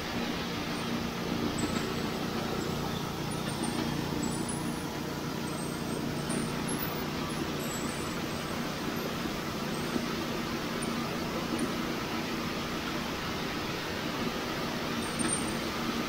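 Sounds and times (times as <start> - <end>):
sawmill engine hum: 0.0 - 16.0.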